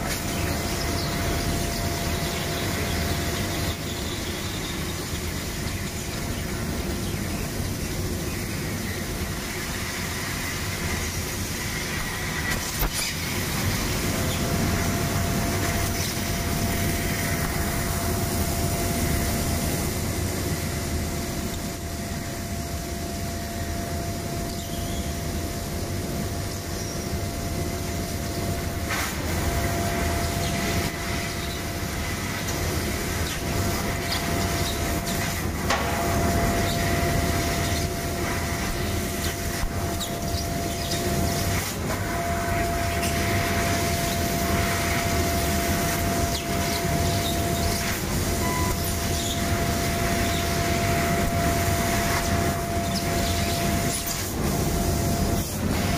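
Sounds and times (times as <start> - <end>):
machine whine: 0.0 - 55.9.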